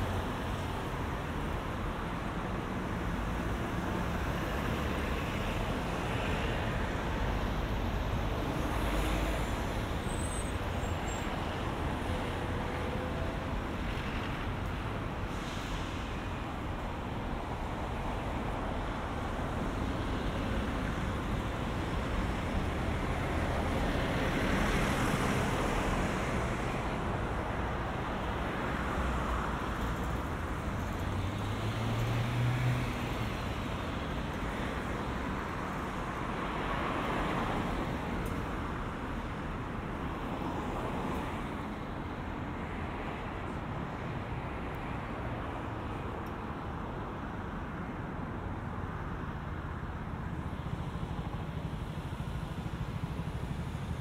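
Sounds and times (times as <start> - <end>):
cars passing: 0.0 - 54.0
road traffic hum: 0.0 - 54.0.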